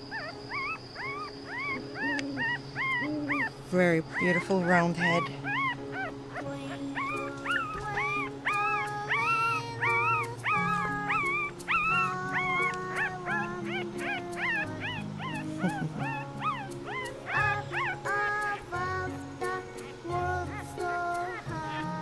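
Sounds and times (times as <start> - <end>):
puppy squeaking and whimpering: 0.0 - 18.7, 19.6 - 21.9
background music: 0.0 - 22.0.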